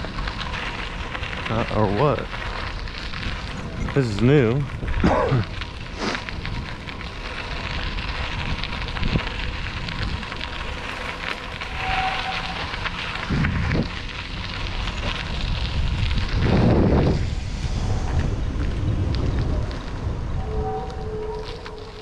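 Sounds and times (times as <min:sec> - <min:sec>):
bicycle tyres crackling on gravel: 0:00.0 - 0:22.0
wind noise on microphone: 0:00.0 - 0:22.0.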